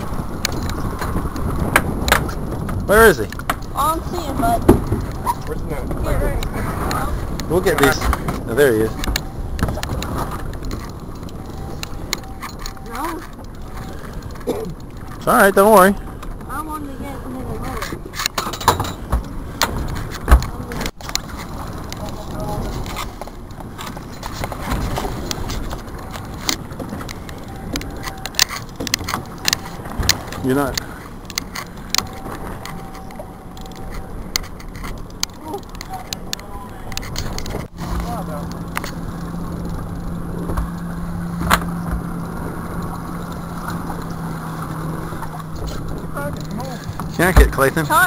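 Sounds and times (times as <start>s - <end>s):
boat engine idling: 0.0s - 48.0s
low rumble of wind and water: 0.0s - 48.0s.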